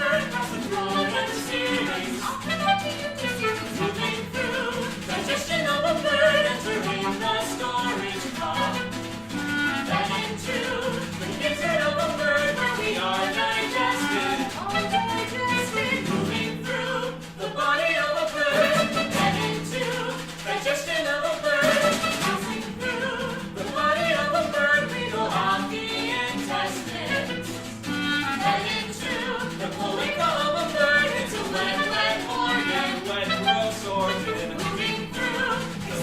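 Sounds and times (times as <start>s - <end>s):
clarinet: 0.0s - 36.0s
percussion: 0.0s - 36.0s.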